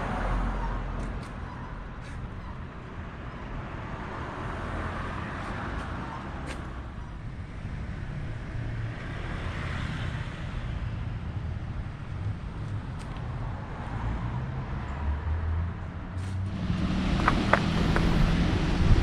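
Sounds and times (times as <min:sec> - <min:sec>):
road traffic rumble: 0:00.0 - 0:19.0
vehicles passing: 0:00.0 - 0:19.0.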